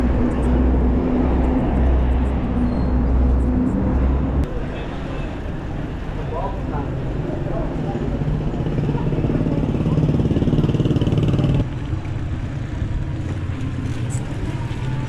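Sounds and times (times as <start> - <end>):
traffic hum: 0.0 - 15.0.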